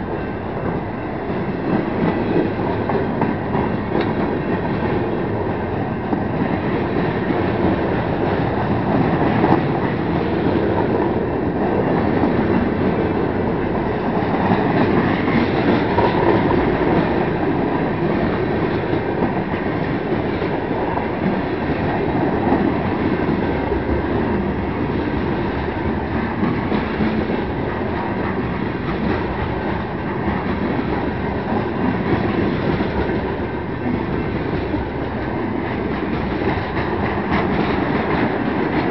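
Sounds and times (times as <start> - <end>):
freight train wheels rolling: 0.0 - 38.9.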